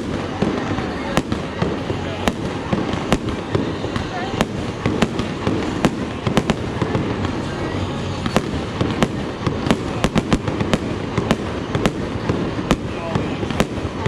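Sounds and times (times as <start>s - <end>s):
fireworks cracks and bangs: 0.0s - 14.0s
low rumble of fireworks: 0.0s - 14.0s.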